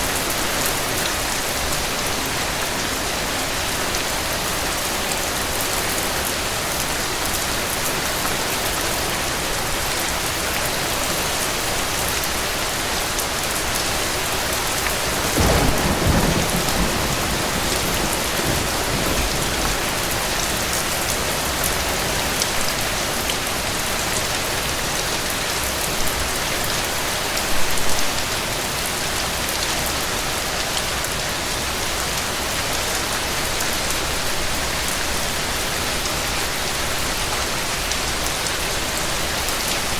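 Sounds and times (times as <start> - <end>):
louder patter of rain: 0.0 - 39.9
rain falling: 0.0 - 39.9.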